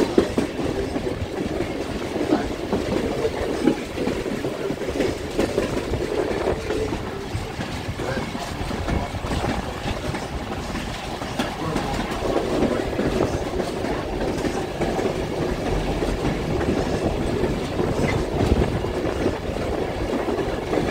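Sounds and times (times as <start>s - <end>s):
train wheels rumbling on rails: 0.0s - 20.9s
wheels clacking on rails: 0.0s - 20.9s.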